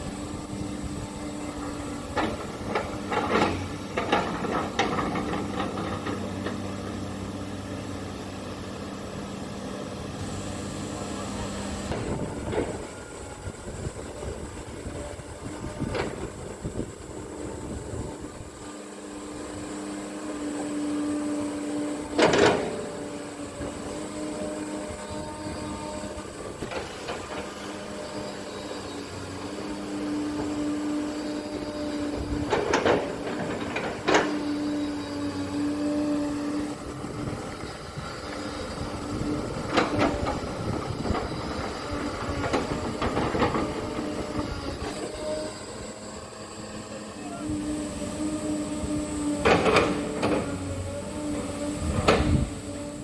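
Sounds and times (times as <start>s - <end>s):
excavator engine and hydraulic drone: 0.0s - 53.0s.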